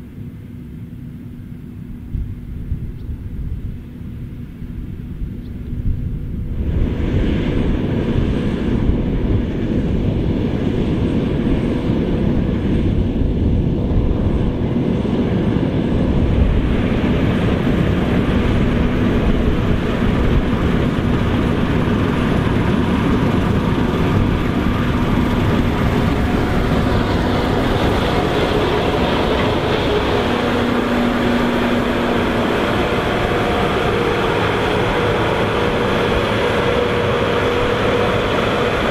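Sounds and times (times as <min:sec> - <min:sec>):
combine harvester running: 0:00.0 - 0:38.9
faint hums: 0:00.0 - 0:38.9.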